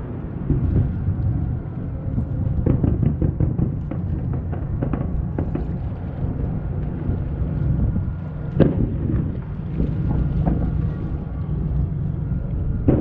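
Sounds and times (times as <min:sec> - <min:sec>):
fireworks bangs and pops: 0:00.0 - 0:01.4, 0:02.1 - 0:11.2
low rumble: 0:00.0 - 0:13.0.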